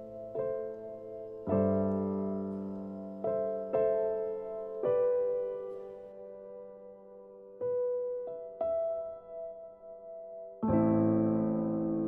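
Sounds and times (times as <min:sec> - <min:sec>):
slow soft piano chords: 0:00.0 - 0:12.0.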